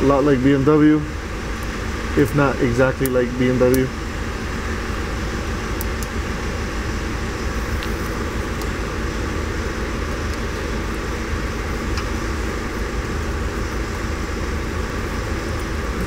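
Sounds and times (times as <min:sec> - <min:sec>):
fan running: 0:00.0 - 0:16.0.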